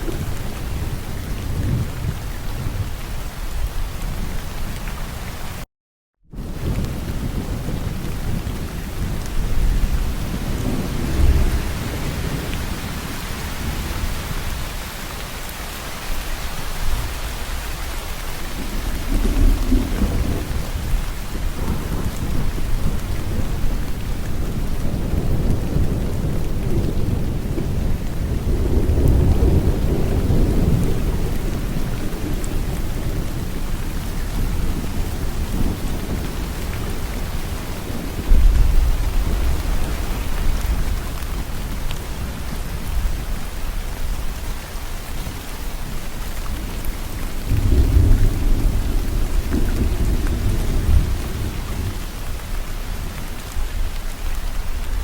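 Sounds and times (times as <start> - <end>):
low thunder rumbling: 0.0 - 4.5, 6.3 - 14.9, 16.9 - 55.0
steady rain: 0.0 - 5.7, 6.3 - 55.0.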